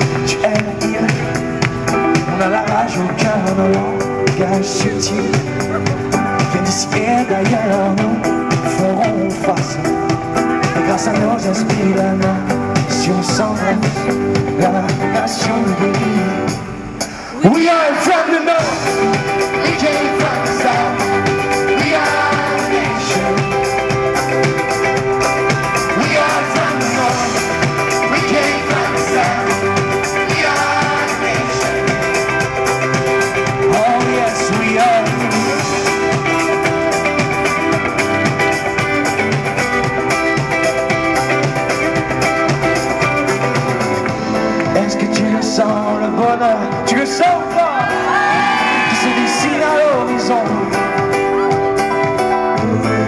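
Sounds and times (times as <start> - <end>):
live band playing pop: 0.0 - 53.0.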